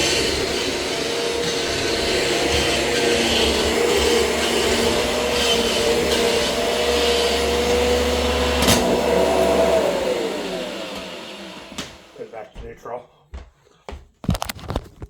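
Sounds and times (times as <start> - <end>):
vacuum cleaner motor whine: 0.0 - 12.3.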